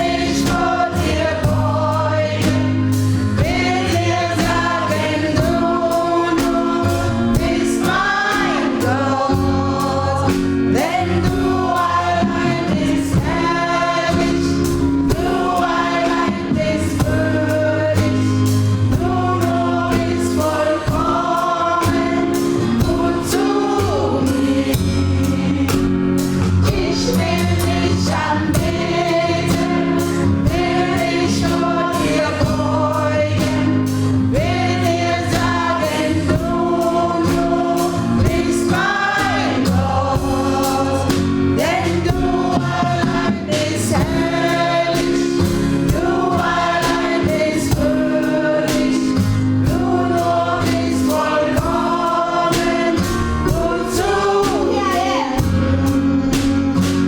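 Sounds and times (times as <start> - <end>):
bass line: 0.0 - 57.0
drum beat: 0.0 - 57.0
gospel choir singing: 0.0 - 57.0.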